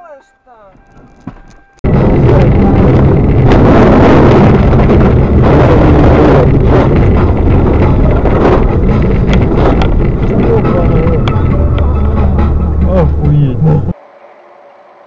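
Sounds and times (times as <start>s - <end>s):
vehicle running noise: 0.7s - 14.0s
wind buffeting microphone: 0.8s - 14.0s.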